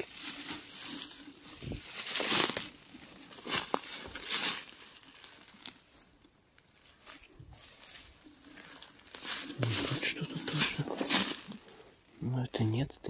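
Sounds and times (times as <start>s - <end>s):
dry leaves rustling and crackling: 0.0s - 12.8s.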